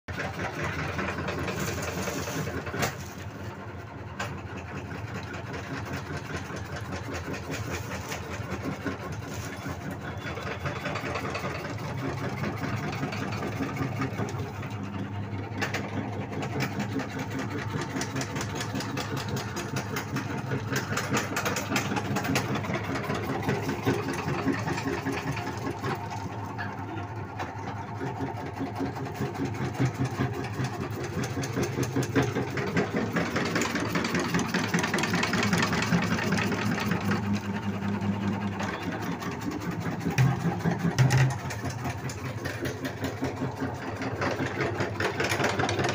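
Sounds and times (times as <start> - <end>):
motor hum: 0.2 - 45.9.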